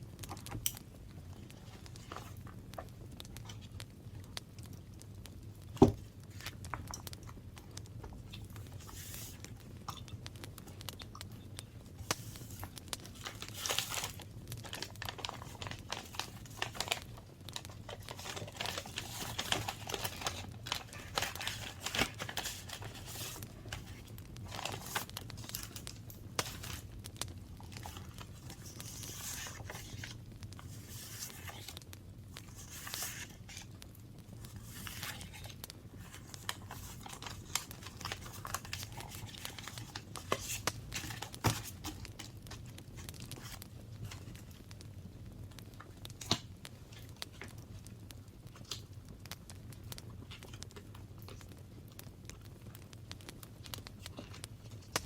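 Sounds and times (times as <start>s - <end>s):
paper crinkling and rustling: 1.3s - 3.9s, 5.7s - 10.0s, 11.6s - 44.8s, 45.8s - 49.0s, 50.2s - 51.5s, 53.6s - 55.0s.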